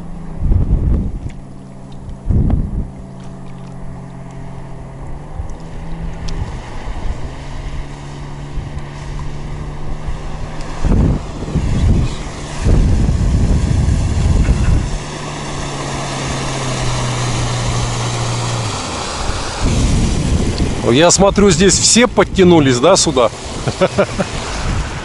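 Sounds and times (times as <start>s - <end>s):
loud low rumbling noise: 0.0s - 25.0s
outboard motor humming: 0.0s - 25.0s.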